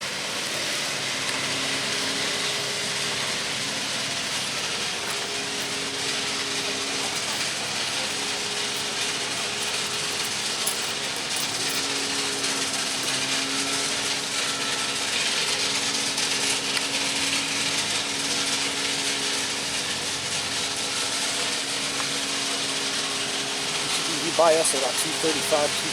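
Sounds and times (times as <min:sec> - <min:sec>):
faint engine drone: 0:00.0 - 0:25.9
machinery hiss and clatter: 0:00.0 - 0:25.9.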